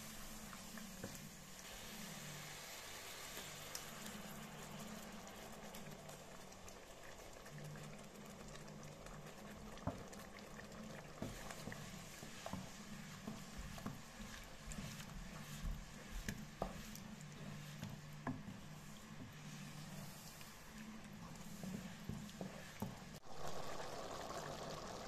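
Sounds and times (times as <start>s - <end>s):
wooden spoon stirring: 0.0s - 23.7s
sauce bubbling in a frying pan: 0.0s - 25.0s.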